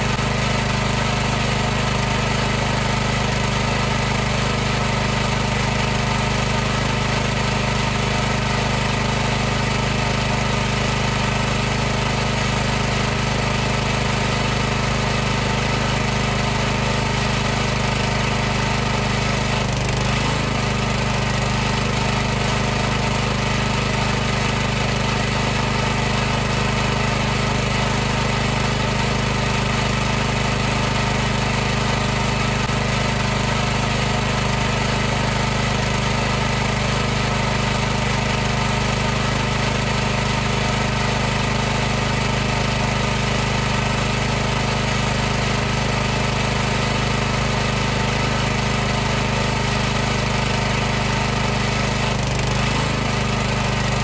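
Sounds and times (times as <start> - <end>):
pressure washer motor humming: 0.0 - 54.0.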